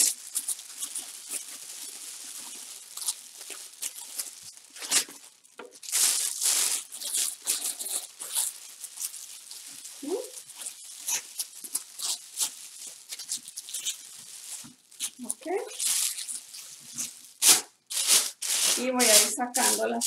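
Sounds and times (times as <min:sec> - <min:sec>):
cellophane and paper crinkling: 0:00.0 - 0:20.0.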